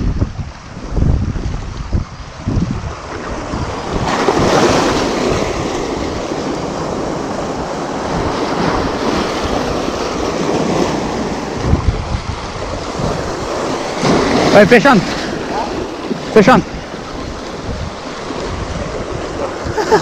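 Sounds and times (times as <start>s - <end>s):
waves breaking over rocks: 0.0s - 20.0s
wind buffeting microphone: 0.0s - 20.0s.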